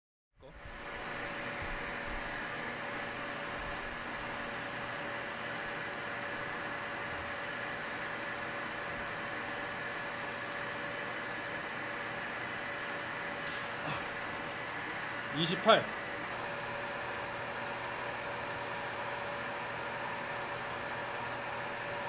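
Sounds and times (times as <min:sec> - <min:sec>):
vacuum cleaner running: 0:00.4 - 0:22.0.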